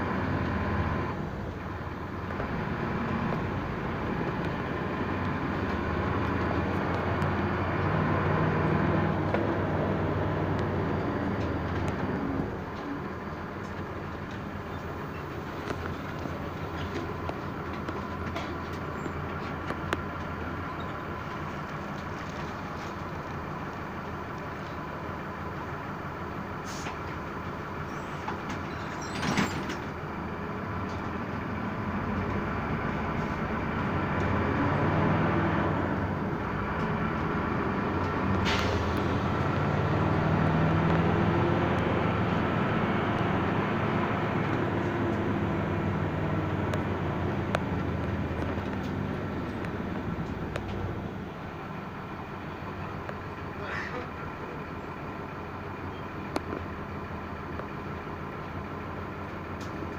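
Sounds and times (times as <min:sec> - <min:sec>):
engine rumble: 0:00.0 - 0:59.9
road noise: 0:00.0 - 0:59.9.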